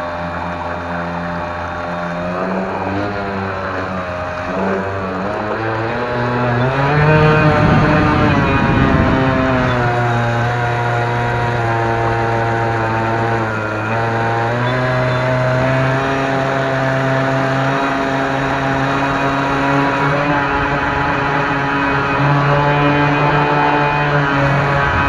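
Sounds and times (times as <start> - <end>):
model boat motor running: 0.0 - 25.0.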